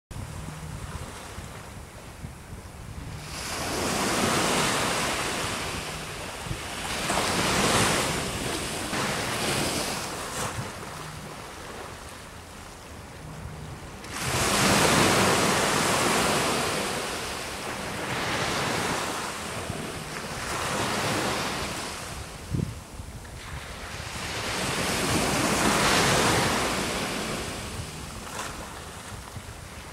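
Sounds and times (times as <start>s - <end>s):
wind rumble on microphone: 0.1s - 29.9s
surf breaking on shore: 0.2s - 29.9s.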